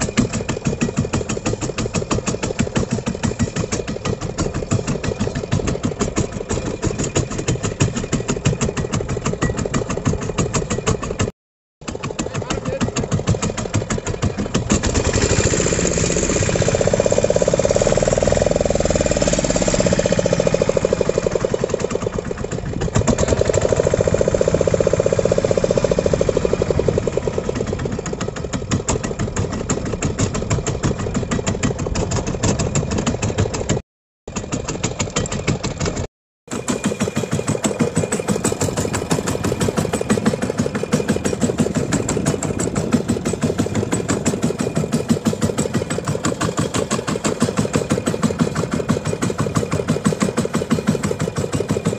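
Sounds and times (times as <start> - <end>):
boat engine chugging: 0.0 - 51.9.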